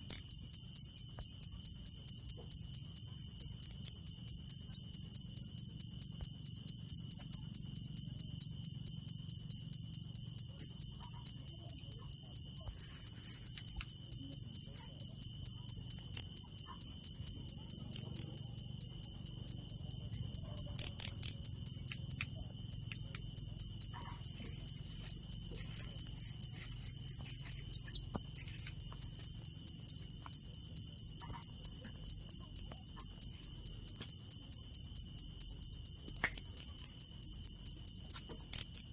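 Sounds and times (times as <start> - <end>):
cricket chirping: 0.0 - 38.9
faint insect trill: 0.0 - 38.9.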